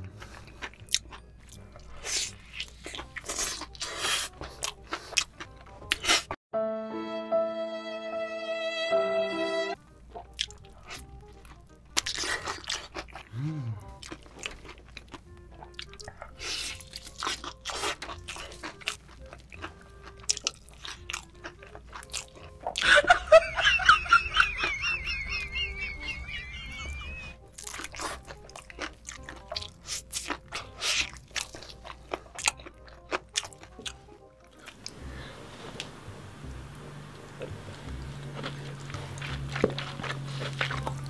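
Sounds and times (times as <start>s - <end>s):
crunching and chewing food: 0.0s - 6.4s, 10.1s - 23.0s, 25.3s - 35.9s, 36.8s - 41.0s.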